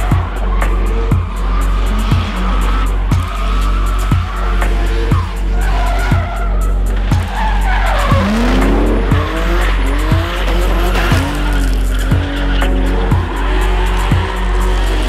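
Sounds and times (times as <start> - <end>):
background music with steady beat: 0.0 - 15.0
car engine revving: 0.0 - 15.0
tyres squealing: 0.0 - 15.0.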